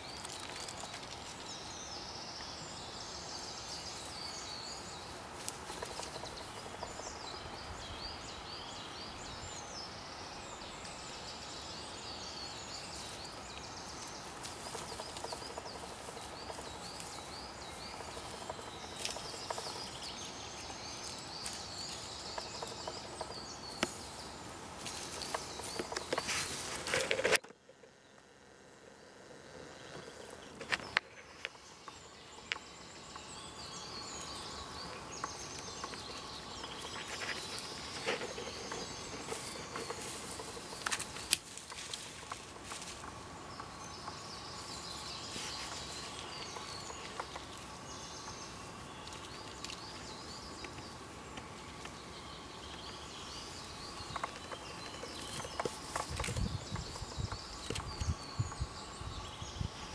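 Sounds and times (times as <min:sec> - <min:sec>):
birds chirping: 0:00.0 - 0:59.9
steady hiss: 0:00.0 - 0:59.9.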